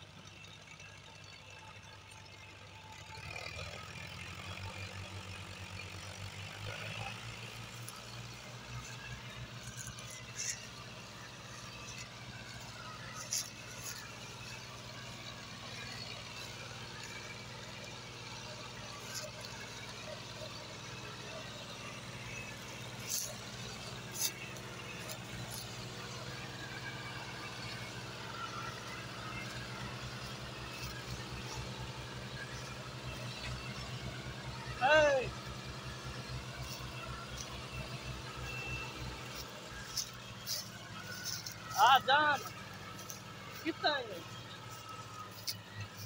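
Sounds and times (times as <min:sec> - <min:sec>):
tractor engines droning: 0:00.0 - 0:46.0.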